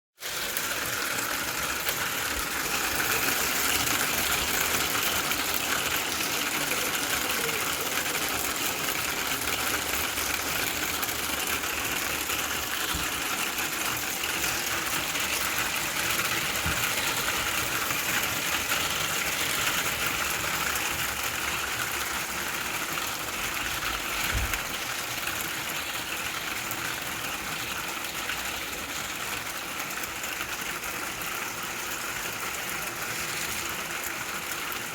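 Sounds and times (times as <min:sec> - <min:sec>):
hail and heavy rain: 0:00.3 - 0:34.9.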